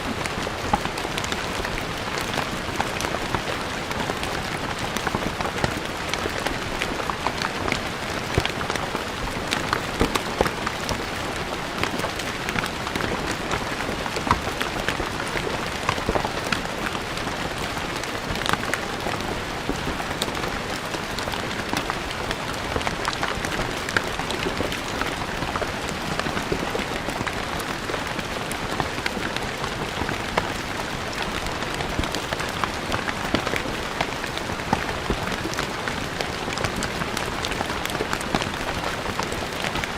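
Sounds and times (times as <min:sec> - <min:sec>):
rain on stone floor: 0:00.0 - 0:39.9.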